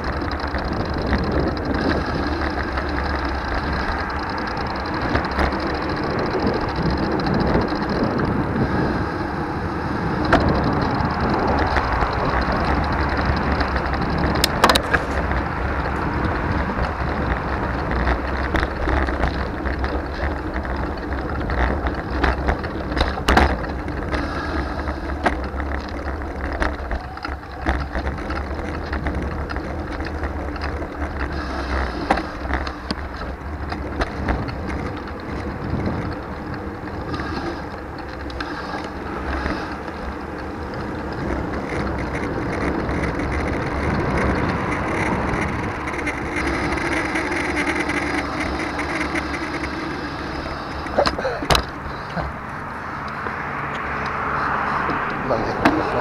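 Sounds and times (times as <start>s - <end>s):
bicycle tyre noise: 0.0s - 56.0s
bike rattles and clicks: 0.0s - 56.0s
wind rumble on microphone: 0.0s - 56.0s.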